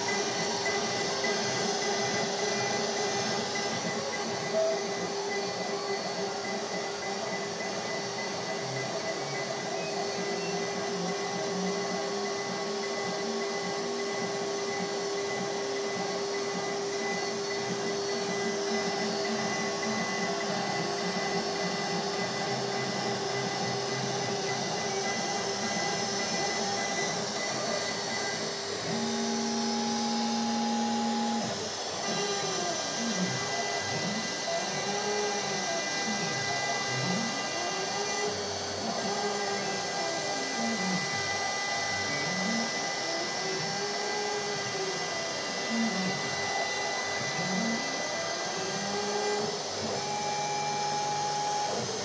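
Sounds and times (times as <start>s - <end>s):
router spindle cutting wood: 0.0s - 52.0s.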